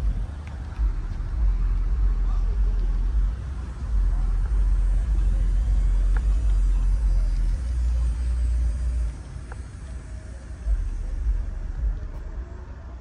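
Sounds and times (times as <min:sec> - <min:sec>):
deep low rumble: 0:00.0 - 0:09.9, 0:10.5 - 0:13.0.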